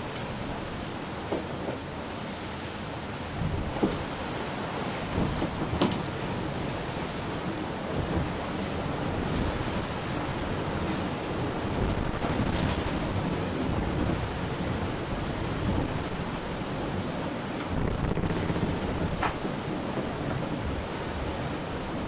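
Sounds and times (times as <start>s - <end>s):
sea water rushing: 0.0s - 22.0s
wind: 0.0s - 22.0s.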